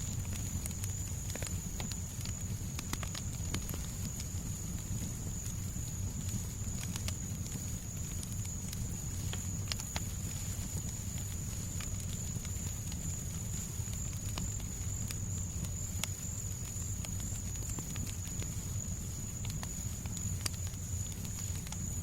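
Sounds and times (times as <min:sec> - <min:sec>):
fireplace crackling and popping: 0:00.0 - 0:22.0
low fire rumble: 0:00.0 - 0:22.0.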